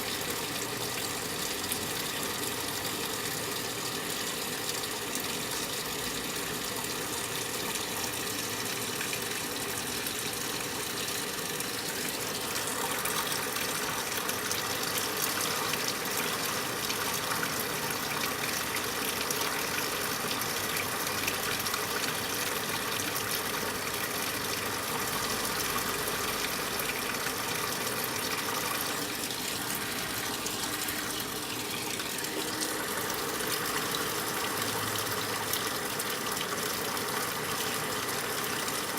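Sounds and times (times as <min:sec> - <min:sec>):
washing machine filling with water: 0:00.0 - 0:38.9.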